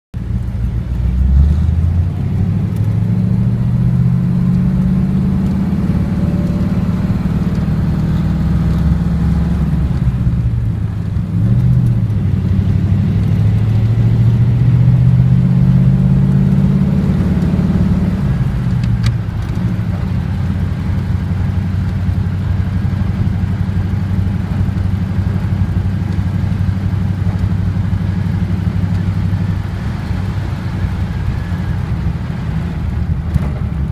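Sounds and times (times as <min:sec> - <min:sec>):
car engine accelerating: 0:00.2 - 0:33.9.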